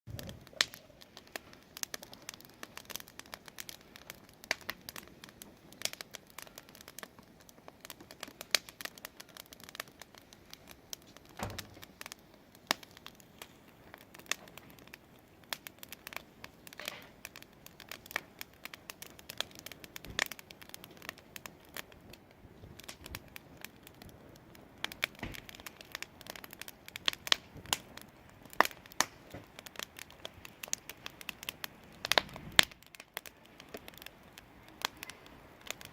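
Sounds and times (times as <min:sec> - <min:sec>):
wood fire crackling and popping: 0:00.1 - 0:35.9.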